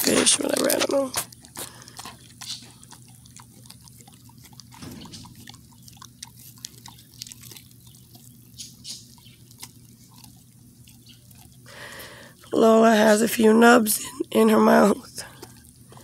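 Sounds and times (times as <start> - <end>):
dog chewing and licking: 0.0 - 16.0.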